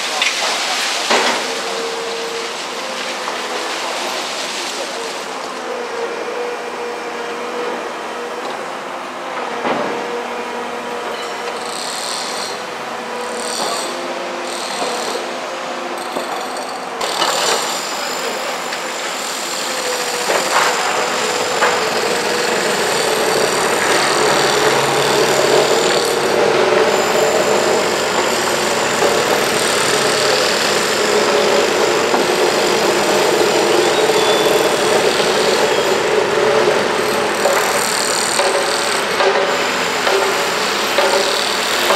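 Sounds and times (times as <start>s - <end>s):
excavator engine and hydraulics: 0.0s - 41.9s.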